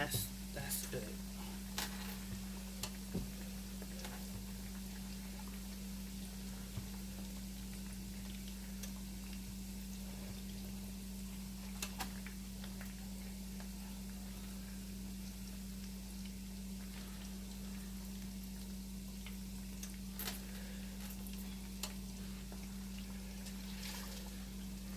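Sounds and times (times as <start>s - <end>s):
chicken frying in oil: 0.0s - 24.9s.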